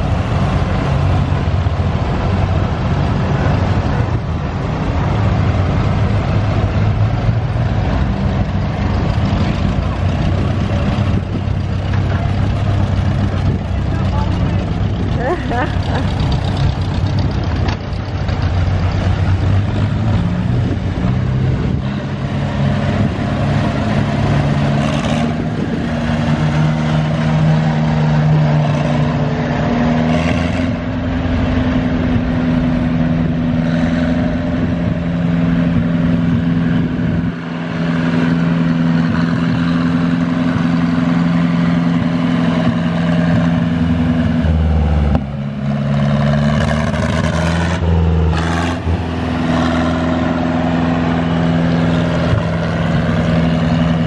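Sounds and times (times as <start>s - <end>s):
tractor engines running: 0.0s - 54.0s.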